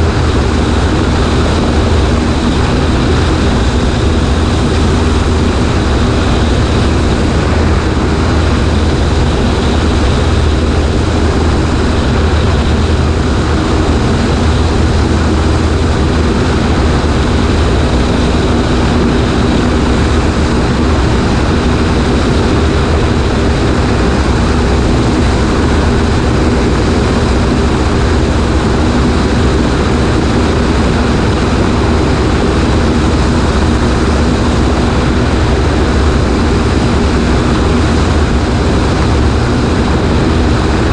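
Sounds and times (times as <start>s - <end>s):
light plane engine droning: 0.0s - 40.9s.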